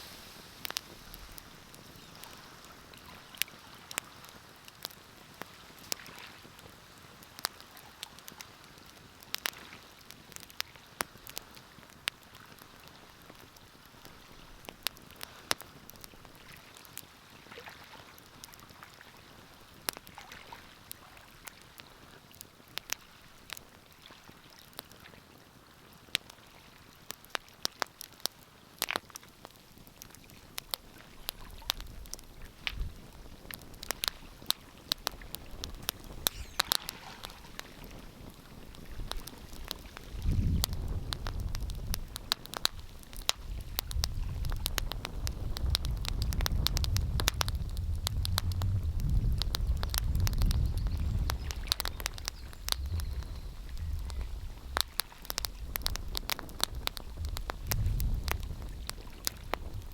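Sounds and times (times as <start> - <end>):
wood fire crackling: 0.0 - 17.1, 26.0 - 59.9.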